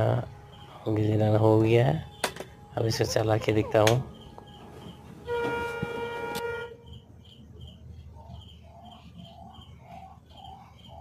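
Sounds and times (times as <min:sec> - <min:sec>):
washing machine humming: 0:00.0 - 0:09.7.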